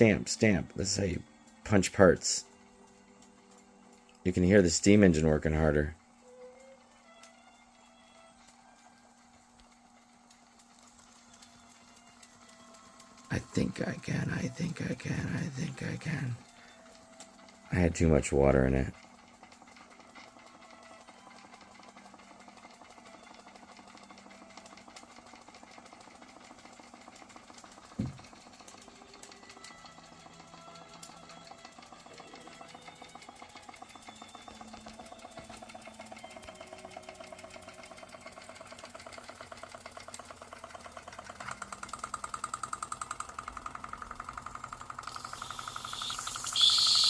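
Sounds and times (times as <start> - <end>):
toy steam engine chuffing: 0.0 - 47.0.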